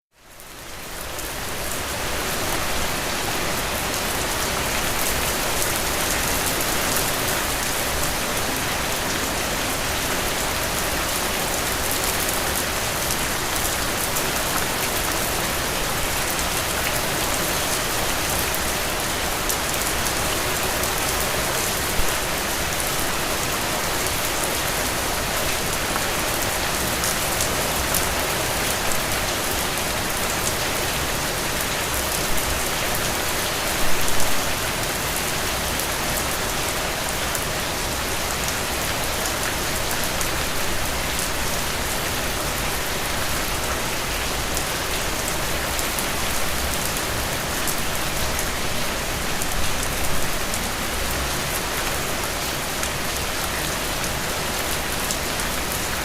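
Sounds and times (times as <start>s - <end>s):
steady rain falling: 0.2s - 56.0s.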